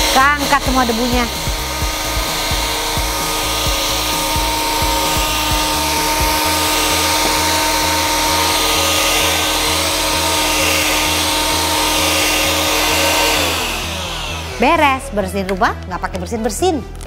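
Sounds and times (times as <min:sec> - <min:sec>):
stick vacuum whining: 0:00.0 - 0:15.9.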